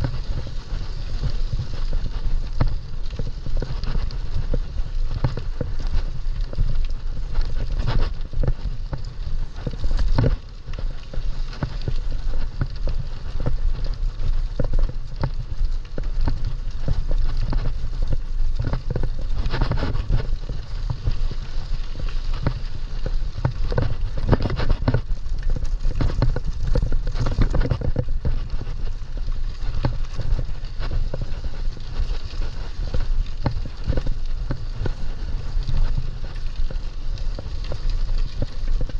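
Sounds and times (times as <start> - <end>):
bike rattling over rough ground: 0.0 - 38.9
steady low rumble: 0.0 - 38.9.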